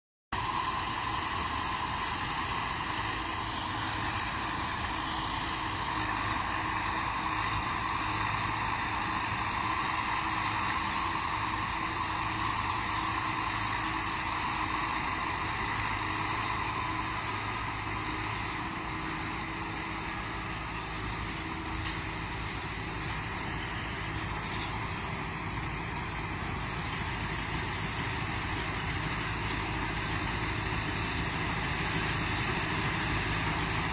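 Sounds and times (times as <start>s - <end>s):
harvester engine and machinery: 0.3s - 33.9s
thin high whine: 0.4s - 33.9s.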